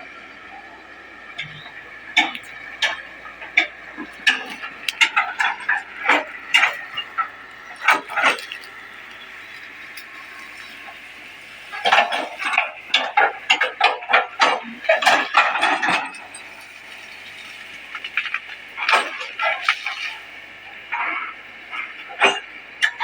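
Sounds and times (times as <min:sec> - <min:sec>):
excavator whine: 0:00.0 - 0:23.0
excavator clanks and knocks: 0:01.2 - 0:23.0.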